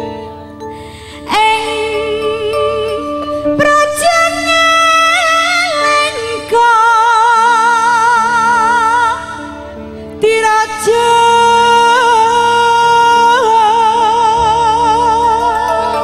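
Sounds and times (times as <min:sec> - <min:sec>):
woman singing with vibrato: 0:00.8 - 0:16.0.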